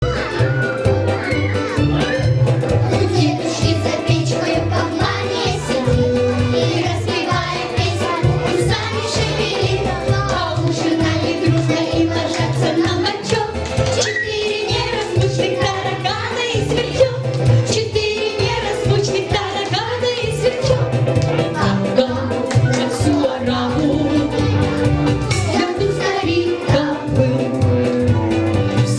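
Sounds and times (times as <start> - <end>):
instrumental accompaniment: 0.0 - 28.9
children singing: 2.7 - 20.8, 21.4 - 27.6.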